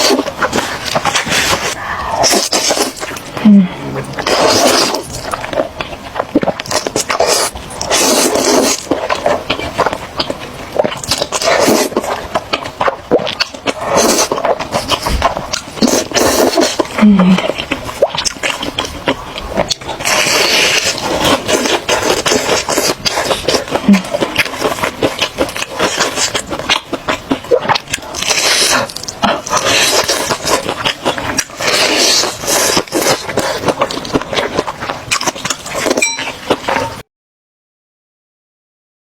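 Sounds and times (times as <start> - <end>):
slurping noodles: 0.0 - 10.0, 10.7 - 37.0
wet chewing: 0.0 - 37.0.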